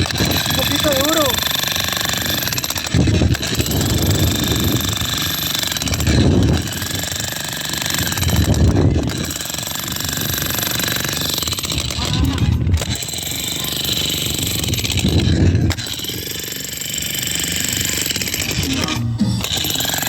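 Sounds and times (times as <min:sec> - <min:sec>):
machine rattling: 0:00.0 - 0:20.0.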